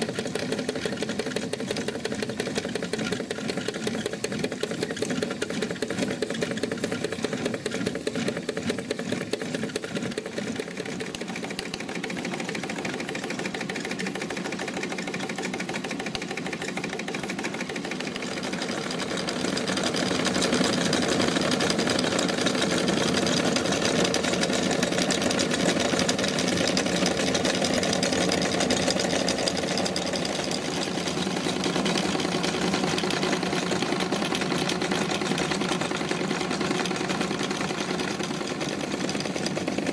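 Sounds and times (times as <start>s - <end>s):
miniature steam engine clatter: 0.0s - 39.9s.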